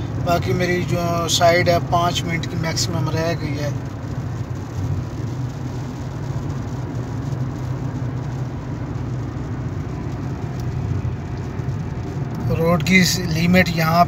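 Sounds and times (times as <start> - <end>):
car engine and tyre drone: 0.0 - 14.0.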